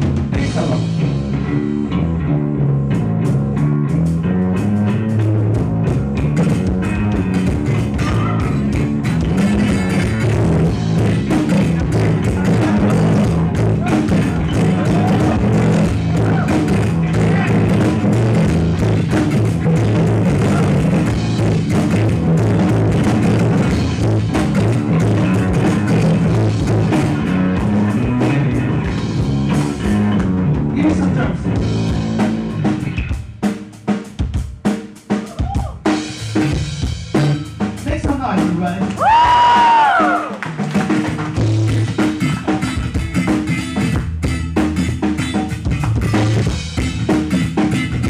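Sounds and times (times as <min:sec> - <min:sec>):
live band jamming: 0:00.0 - 0:48.0.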